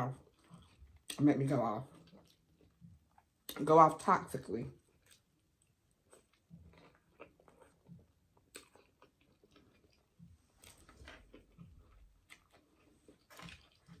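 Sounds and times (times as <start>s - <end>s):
chewing soft bread: 0.0s - 14.0s.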